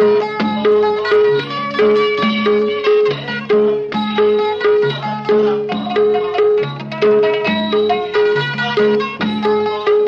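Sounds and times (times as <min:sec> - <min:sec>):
plucked string folk melody: 0:00.0 - 0:10.0.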